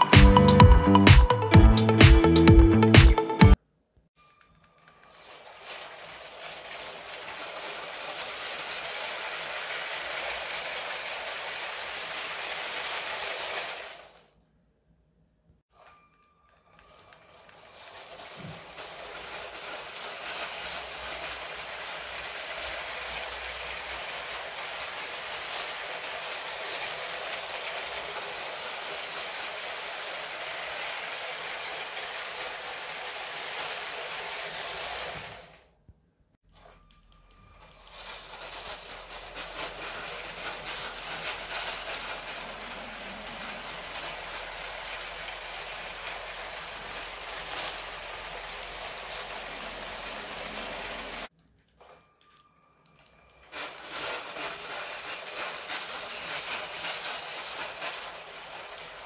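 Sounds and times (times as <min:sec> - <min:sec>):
toy train rattling on plastic track: 0:04.2 - 0:14.3, 0:15.7 - 0:35.7, 0:36.5 - 0:59.0.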